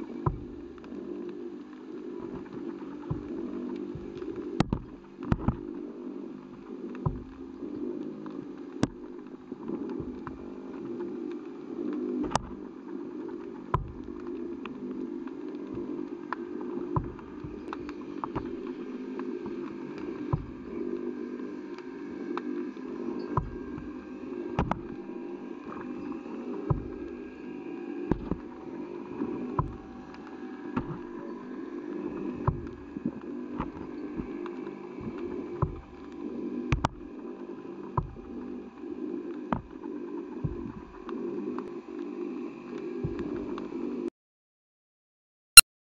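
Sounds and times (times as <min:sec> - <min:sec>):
underwater low hum: 0:00.0 - 0:44.1.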